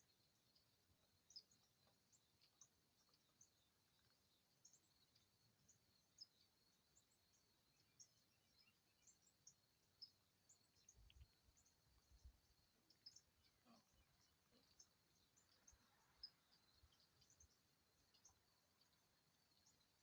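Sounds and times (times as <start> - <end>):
small birds chirping faintly: 0.0 - 20.0.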